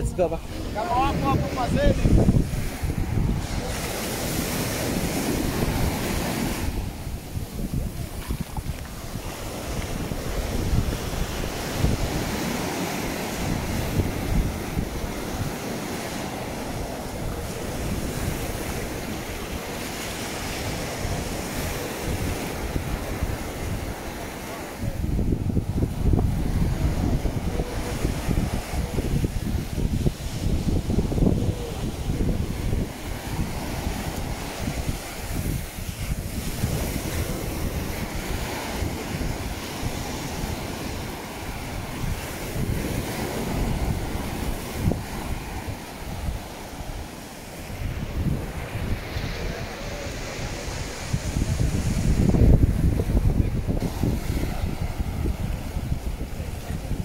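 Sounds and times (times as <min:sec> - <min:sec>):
small waves breaking on sand: 0:00.0 - 0:57.0
surf washing onto beach: 0:00.0 - 0:57.0
wind buffeting microphone: 0:00.0 - 0:57.0.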